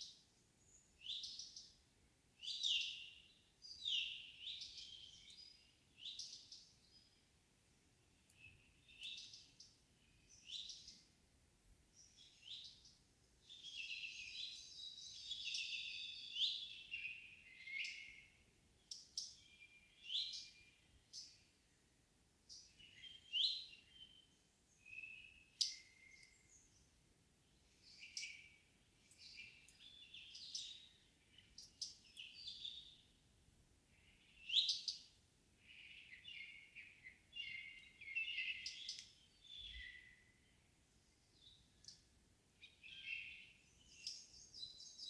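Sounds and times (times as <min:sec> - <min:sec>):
songbirds singing: 0:00.0 - 0:45.0.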